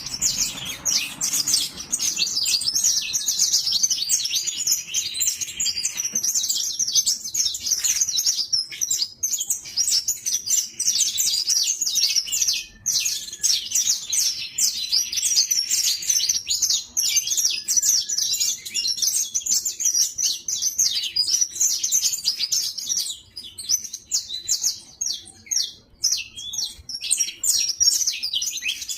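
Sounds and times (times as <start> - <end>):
finch twittering: 0.0 - 28.9.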